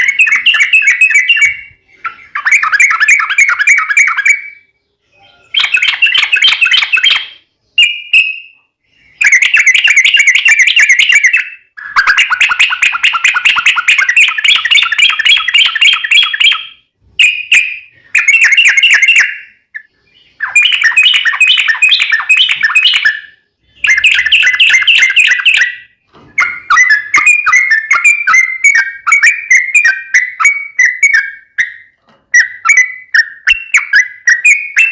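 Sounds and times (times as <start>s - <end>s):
bulbul singing rapid notes: 0.0s - 4.6s, 9.2s - 34.9s.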